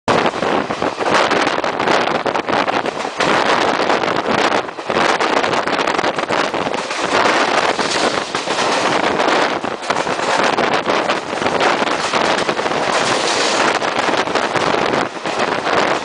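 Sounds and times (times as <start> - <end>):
passing electric train: 0.1 - 16.0
wind on microphone: 0.1 - 16.0
train wheels clattering over rails: 0.2 - 16.0.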